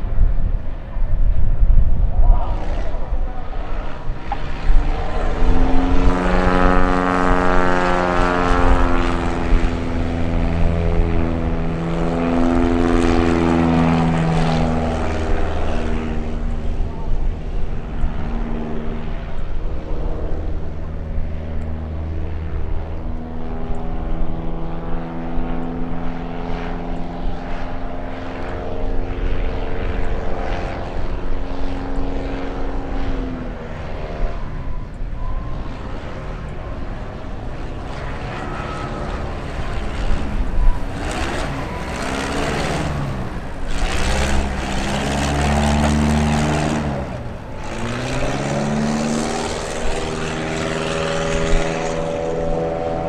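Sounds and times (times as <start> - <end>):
light plane engine and propeller: 0.0 - 53.0
plane passing low: 0.0 - 53.0.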